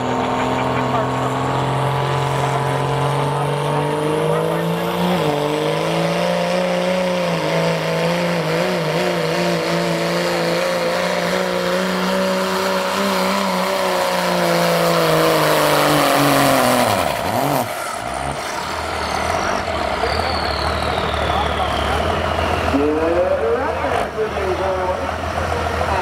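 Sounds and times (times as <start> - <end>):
diesel engine at full throttle: 0.0 - 26.0.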